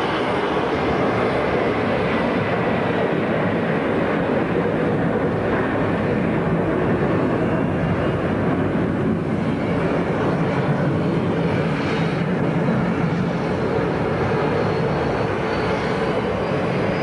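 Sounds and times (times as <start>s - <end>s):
jet engines at takeoff power: 0.0s - 17.0s.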